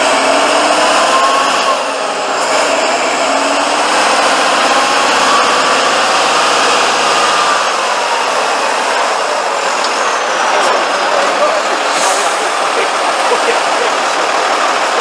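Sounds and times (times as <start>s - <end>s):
truck engine under heavy load: 0.0s - 15.0s.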